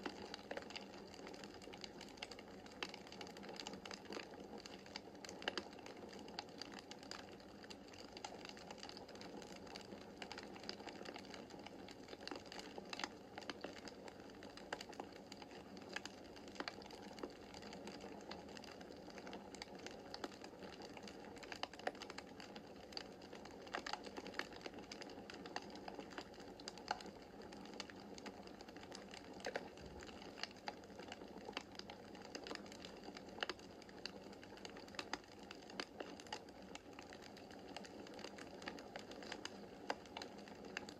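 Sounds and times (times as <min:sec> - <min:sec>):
soft hiss of burning logs: 0:00.0 - 0:40.9
wood fire popping and snapping: 0:00.0 - 0:40.9.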